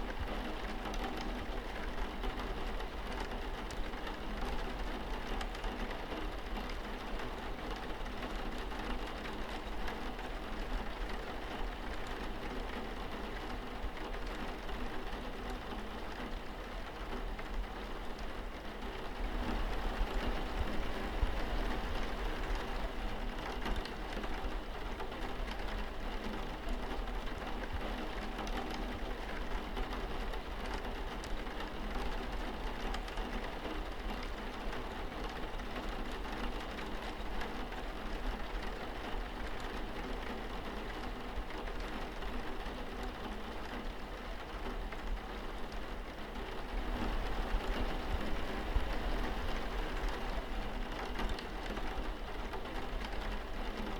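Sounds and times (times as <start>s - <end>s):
rain on a window pane: 0.0s - 53.9s.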